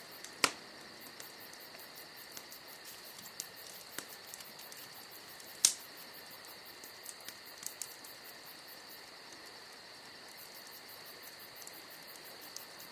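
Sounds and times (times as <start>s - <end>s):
campfire crackling and popping: 0.0s - 12.9s
crickets chirping: 0.0s - 12.9s.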